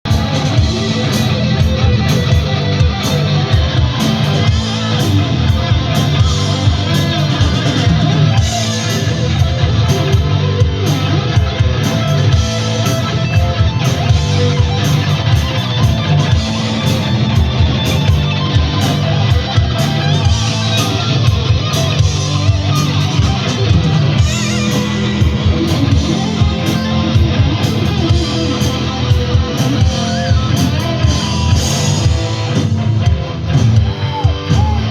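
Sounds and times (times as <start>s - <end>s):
heavy rock guitar: 0.0s - 34.9s.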